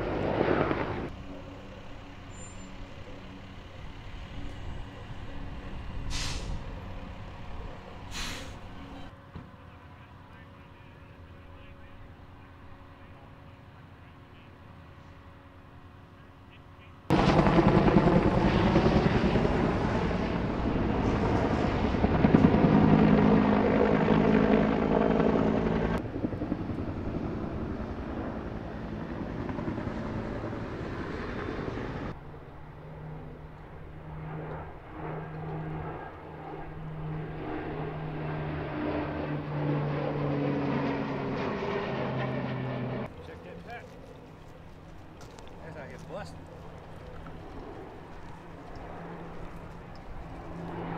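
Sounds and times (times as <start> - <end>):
helicopter rotor chop: 0.0 - 9.1, 17.1 - 50.9
propeller plane engine drone: 0.0 - 50.9.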